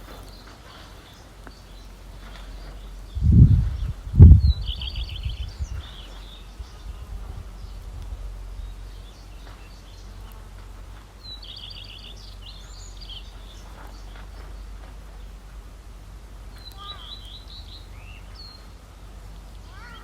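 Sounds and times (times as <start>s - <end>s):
low steady rumble: 0.0s - 20.0s
songbird singing: 0.0s - 20.0s.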